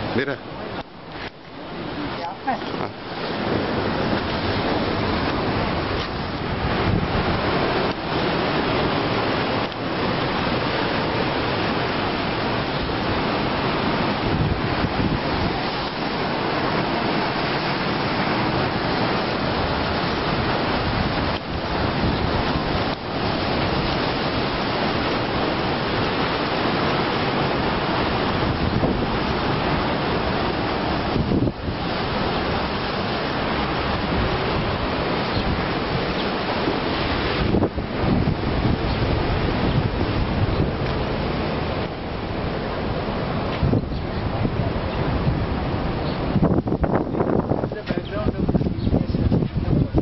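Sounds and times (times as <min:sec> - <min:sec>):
surf breaking on rocky shore: 0:00.0 - 0:50.0
wind on microphone: 0:00.0 - 0:50.0.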